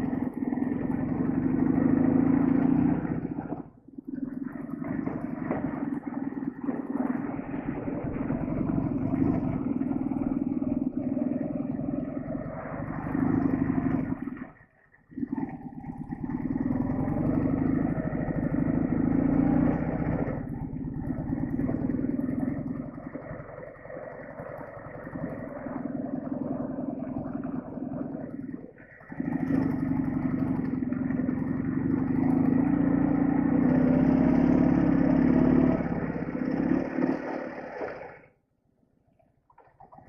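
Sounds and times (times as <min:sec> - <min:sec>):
motorcycle engine running: 0:00.0 - 0:38.3.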